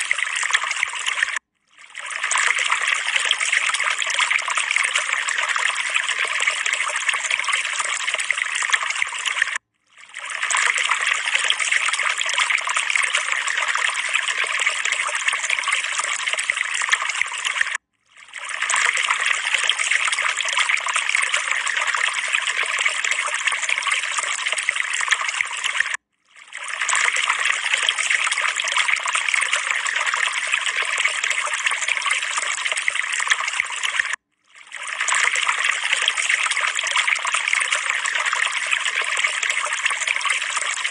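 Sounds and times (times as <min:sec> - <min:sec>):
trickling running water: 0:00.0 - 0:40.9.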